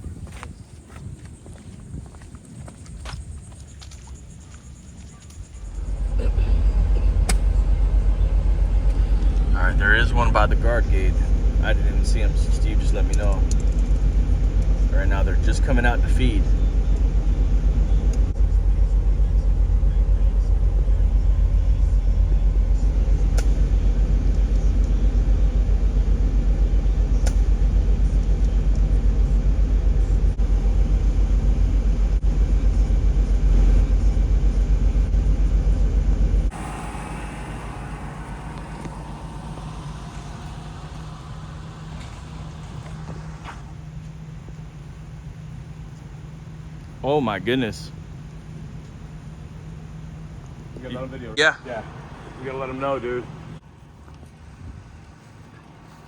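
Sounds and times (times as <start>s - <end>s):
car road rumble from inside: 2.8s - 56.0s.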